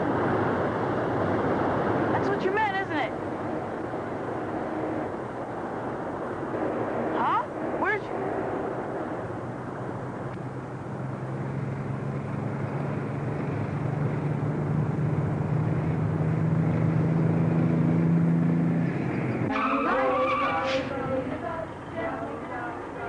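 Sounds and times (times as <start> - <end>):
road noise: 0.0 - 23.0
vehicle engine hum: 0.0 - 23.0.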